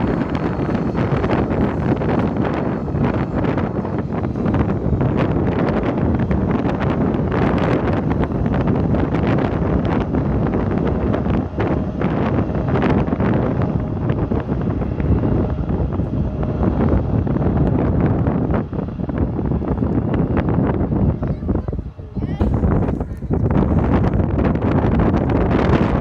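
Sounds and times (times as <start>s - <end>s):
jet airliner taking off: 0.0s - 26.0s
wind buffeting microphone: 0.0s - 26.0s.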